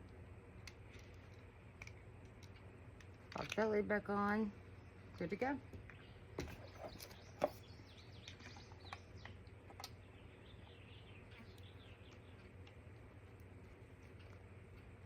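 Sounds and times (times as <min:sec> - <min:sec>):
low steady hum: 0:00.0 - 0:15.0
birds chirping: 0:00.8 - 0:15.0.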